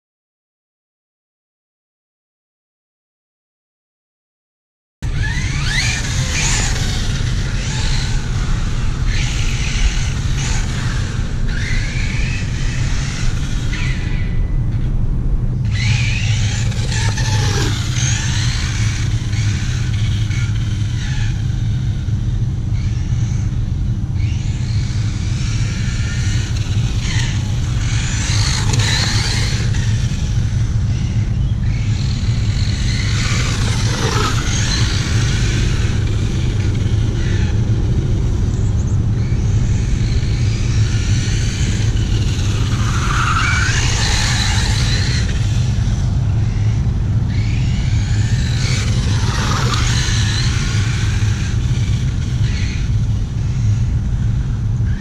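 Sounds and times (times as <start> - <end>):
electric motor whining: 5.0 - 14.3, 15.6 - 55.0
low rumble: 5.0 - 55.0.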